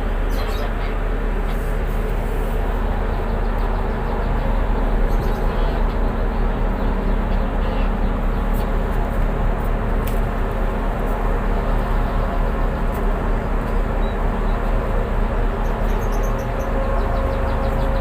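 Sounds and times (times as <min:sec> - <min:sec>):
tugboat diesel engines droning: 0:00.0 - 0:18.0.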